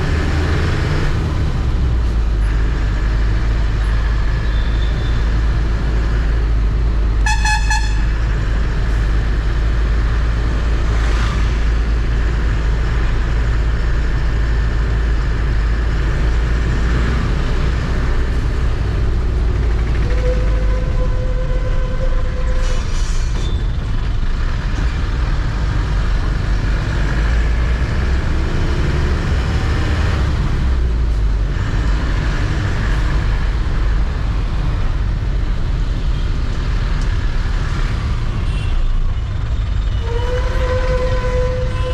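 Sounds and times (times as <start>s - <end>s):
truck engine rumbling: 0.0s - 41.9s.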